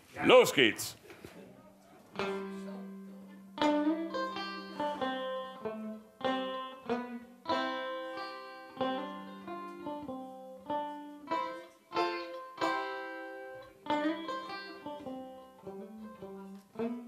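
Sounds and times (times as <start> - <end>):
resonator banjo picking: 2.1 - 17.0.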